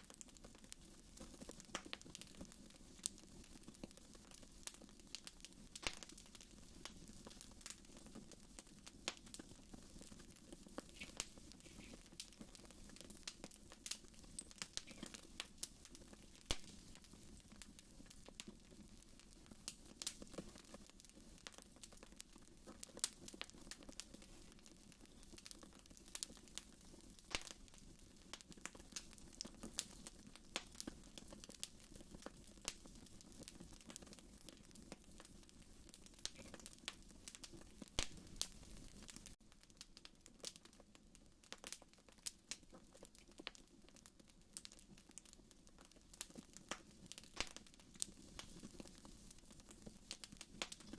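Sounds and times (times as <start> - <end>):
fire crackling in a fireplace: 0.0 - 50.9.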